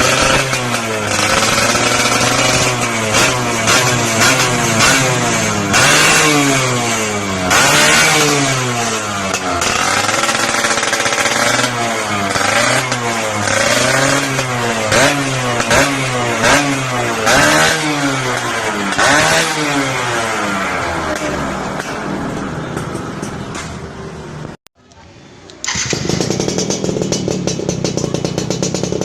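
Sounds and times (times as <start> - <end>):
motorcycle engine revving: 0.0 - 24.6, 25.6 - 29.0.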